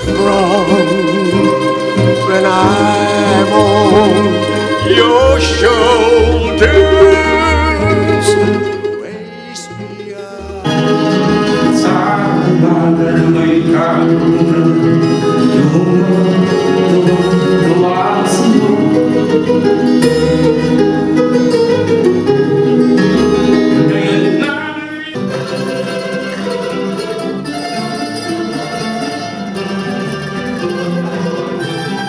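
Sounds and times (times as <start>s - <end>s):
person singing: 0.0s - 21.2s, 23.5s - 29.4s
plucked string ensemble playing: 0.0s - 32.0s.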